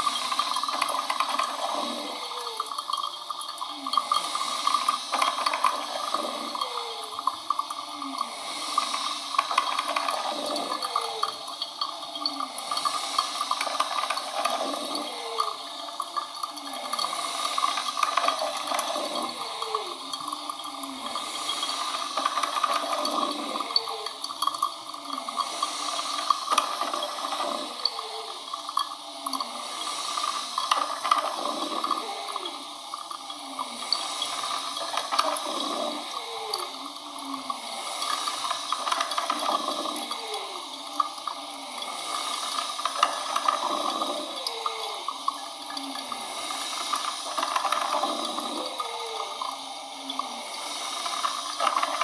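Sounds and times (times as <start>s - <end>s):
coffee machine gurgling and hissing: 0.0s - 52.0s.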